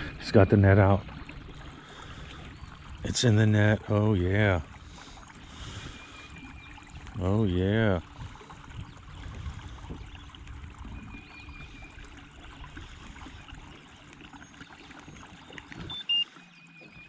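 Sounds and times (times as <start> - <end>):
water lapping around a kayak: 0.0 - 17.0.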